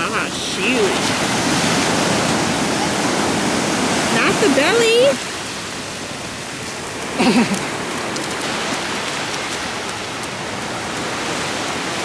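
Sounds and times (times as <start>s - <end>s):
ocean surf washing in: 0.0s - 12.0s.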